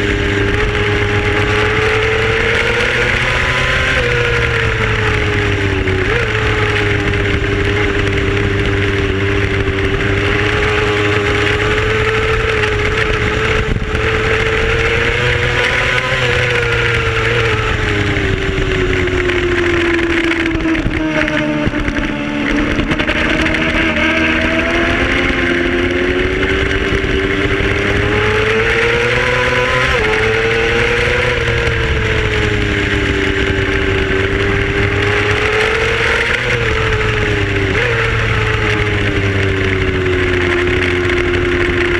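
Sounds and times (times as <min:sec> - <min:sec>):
racing motorcycle engine revving: 0:00.0 - 0:41.9
wind noise: 0:00.0 - 0:41.9.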